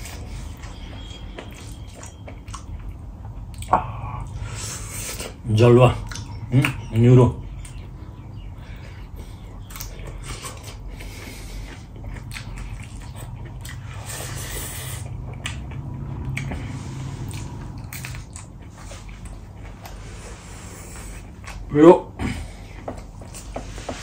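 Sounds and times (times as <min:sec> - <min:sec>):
person chewing wetly: 0:00.0 - 0:05.4, 0:06.0 - 0:20.3, 0:20.9 - 0:21.7.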